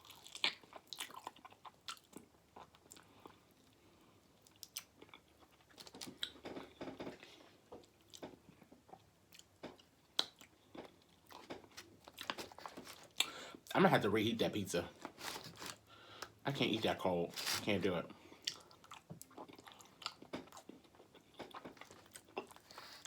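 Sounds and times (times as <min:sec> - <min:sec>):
person chewing food: 0:00.0 - 0:13.7, 0:14.9 - 0:16.4, 0:17.3 - 0:23.0.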